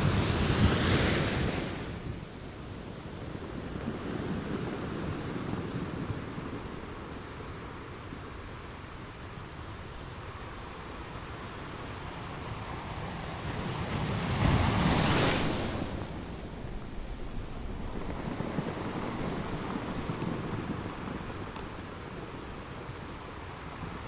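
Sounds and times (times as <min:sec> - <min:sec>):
wave breaking and washing back: 0:00.0 - 0:07.0, 0:11.1 - 0:24.0
wind on microphone: 0:00.0 - 0:24.0.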